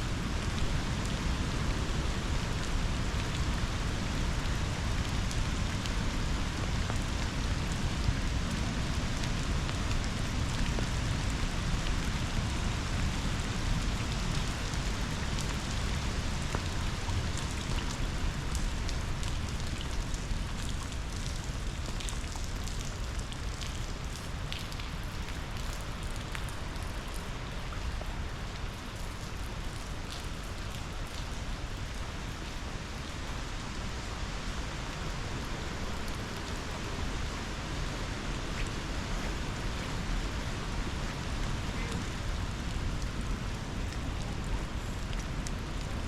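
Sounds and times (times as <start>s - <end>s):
river water flowing: 0.0s - 46.0s
steady rain falling: 0.0s - 46.0s.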